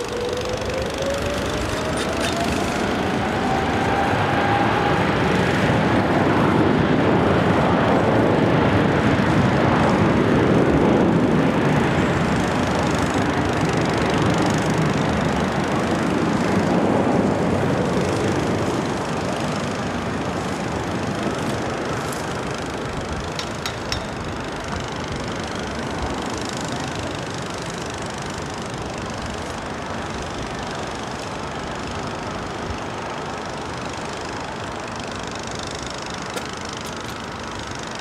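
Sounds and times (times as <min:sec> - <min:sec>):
jet engine whine: 0:00.0 - 0:38.0.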